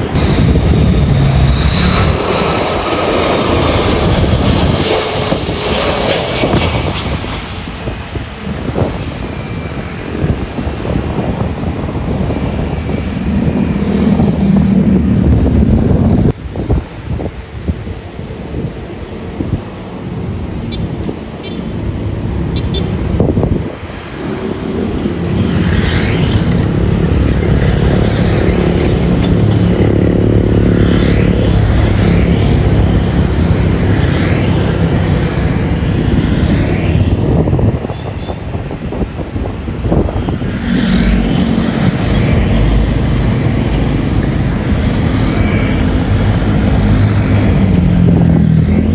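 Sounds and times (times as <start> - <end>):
airliner engines rumbling: 0.0 - 48.9.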